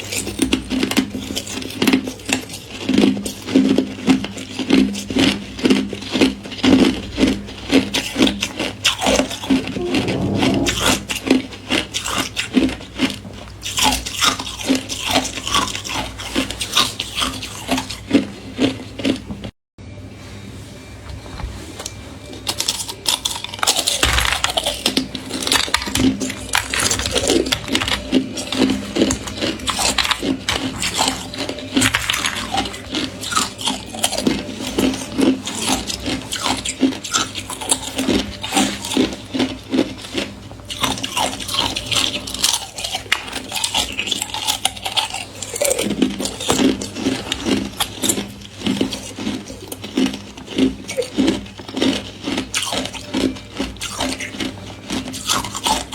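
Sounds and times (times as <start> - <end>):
ice crunching being chewed: 0.0 - 19.5, 21.8 - 55.9.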